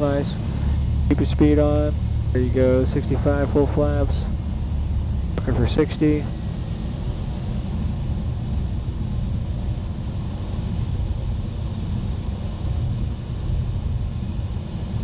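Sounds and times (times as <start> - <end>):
airflow noise: 0.0 - 15.0
propeller plane engine droning: 0.0 - 15.0.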